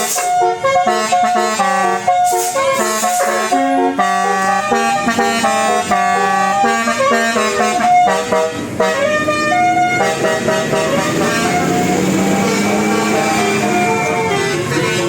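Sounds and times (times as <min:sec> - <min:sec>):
musical air horn melody: 0:00.0 - 0:15.0.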